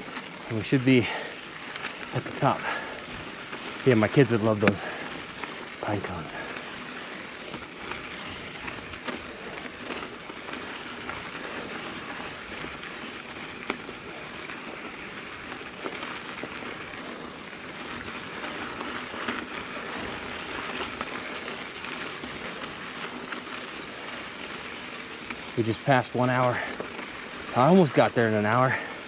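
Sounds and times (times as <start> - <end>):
bike tyres rolling on gravel: 0.0 - 29.0.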